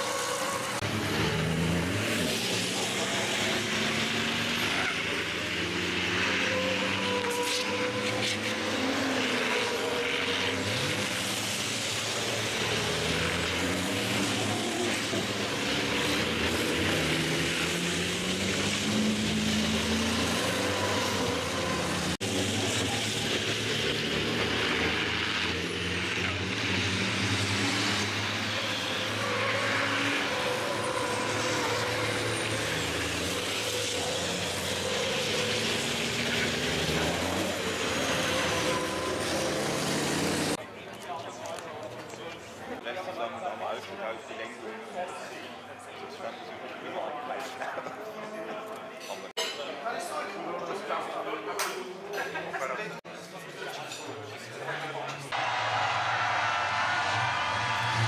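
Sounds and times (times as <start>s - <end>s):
truck engines revving past: 0.0s - 42.8s, 53.9s - 58.0s.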